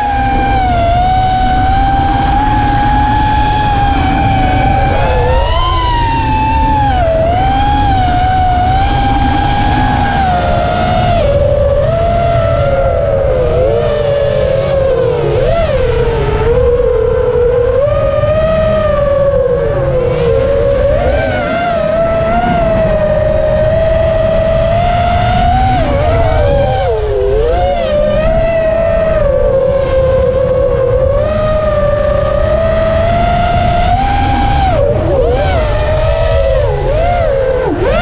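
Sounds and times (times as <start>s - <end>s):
quadcopter motors whining: 0.0s - 38.0s
steady low rumble: 0.0s - 38.0s.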